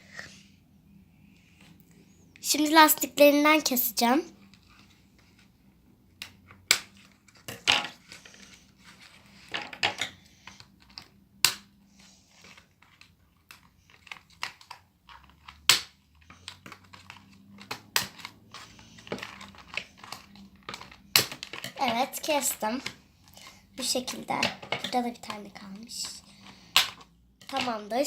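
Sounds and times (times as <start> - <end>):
plastic and cardboard rustling: 3.6 - 11.2, 11.8 - 28.0.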